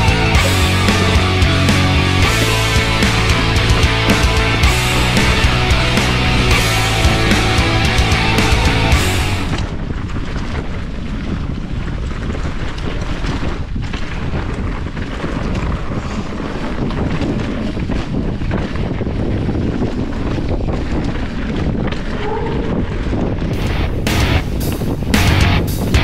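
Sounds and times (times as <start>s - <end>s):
bicycle tyre noise: 0.0s - 26.0s
bike knocks and rattles: 0.0s - 26.0s
wind rushing over microphone: 0.0s - 26.0s.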